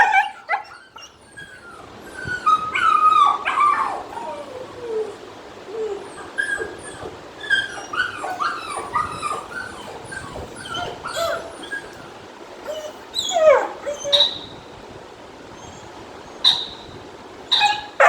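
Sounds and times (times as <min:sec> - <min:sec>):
puppy whining and yipping: 0:00.0 - 0:14.6, 0:17.5 - 0:18.0.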